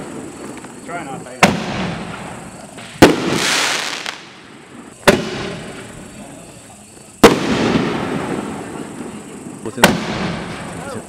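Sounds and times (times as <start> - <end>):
firework hiss: 0.0 - 11.0.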